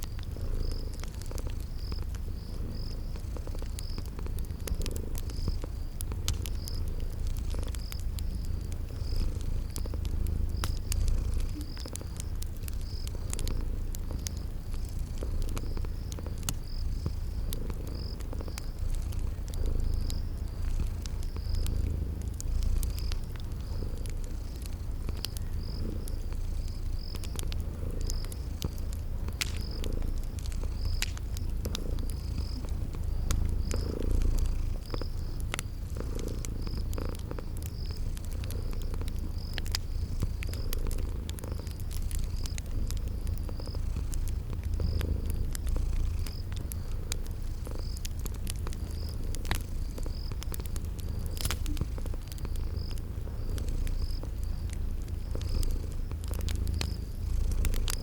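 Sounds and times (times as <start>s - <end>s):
cat purring: 0.0s - 58.0s
cricket chirping: 0.0s - 58.0s
wood fire crackling: 0.0s - 58.0s.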